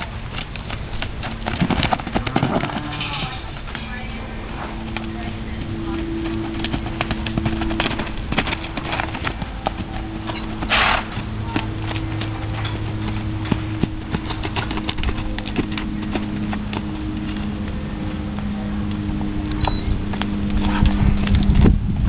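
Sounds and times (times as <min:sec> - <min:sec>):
horse hoofbeats on dirt: 0:00.0 - 0:22.0
low steady hum: 0:00.0 - 0:22.0.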